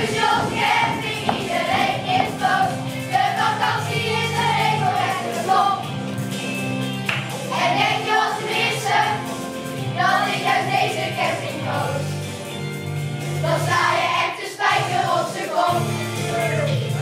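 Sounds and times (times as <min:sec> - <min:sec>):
children singing together: 0:00.0 - 0:05.9, 0:07.5 - 0:12.3, 0:13.4 - 0:17.0
held accompaniment chords: 0:00.0 - 0:14.2.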